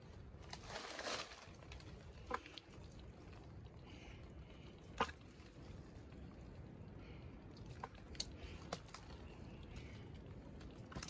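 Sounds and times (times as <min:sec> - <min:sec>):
wet mud rustle: 0:00.2 - 0:11.0.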